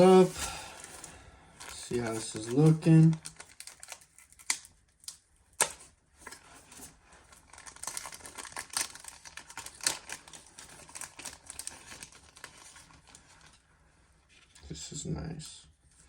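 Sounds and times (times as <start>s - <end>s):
packaging crinkling and rustling: 0.0s - 14.6s.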